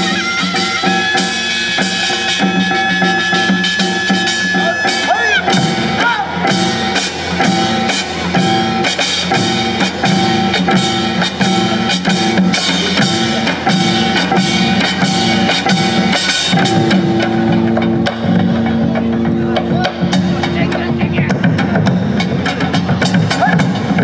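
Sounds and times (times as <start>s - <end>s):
drums and percussion: 0.0s - 24.0s
traditional ensemble music: 0.0s - 24.0s.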